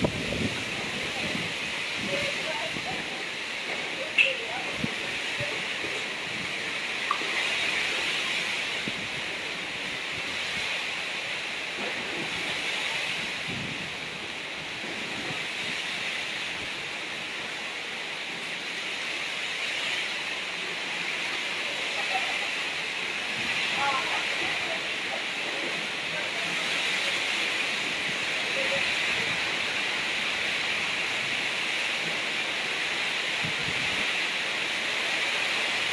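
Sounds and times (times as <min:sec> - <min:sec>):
heavy rain: 0:00.0 - 0:35.9
strong wind: 0:00.0 - 0:35.9.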